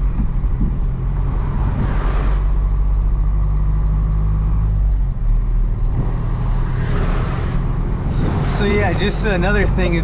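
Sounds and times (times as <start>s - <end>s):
diesel truck engine drone: 0.0s - 10.0s
road noise inside cab: 0.0s - 10.0s.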